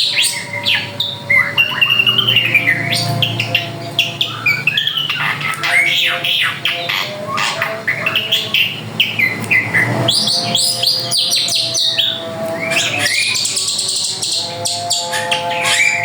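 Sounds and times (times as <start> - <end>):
bird singing whistled notes: 0.0 - 16.0.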